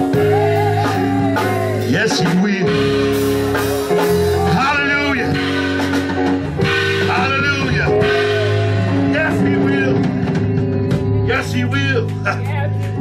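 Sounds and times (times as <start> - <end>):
gospel band playing: 0.0 - 13.0.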